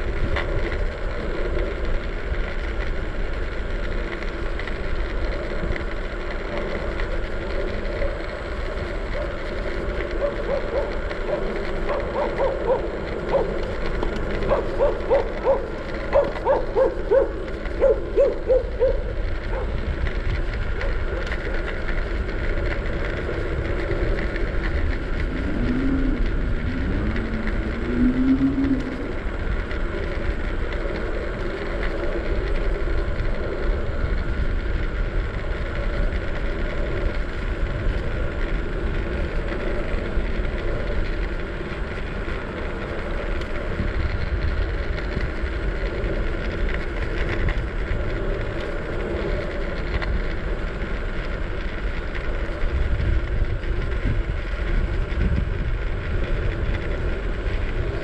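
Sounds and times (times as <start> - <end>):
scooter tyres rumbling on road: 0.0 - 58.0.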